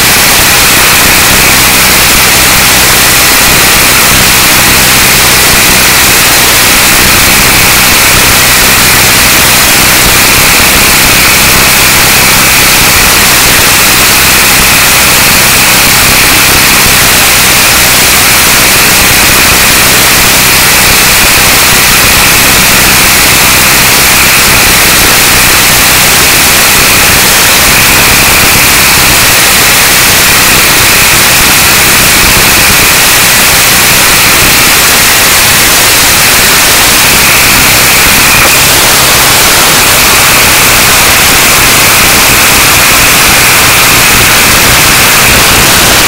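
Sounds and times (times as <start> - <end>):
helicopter rotor hiss: 0.0 - 32.8, 33.4 - 46.0
electric motor whine: 0.0 - 46.0.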